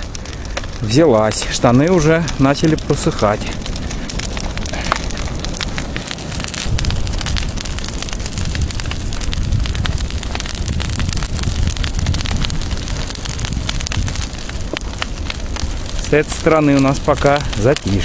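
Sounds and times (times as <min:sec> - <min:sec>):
bonfire crackling and popping: 0:00.0 - 0:18.0
fire rumbling: 0:00.0 - 0:18.0.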